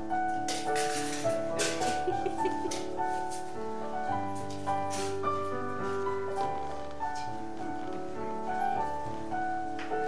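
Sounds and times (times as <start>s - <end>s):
slow digital piano music: 0.0s - 10.0s.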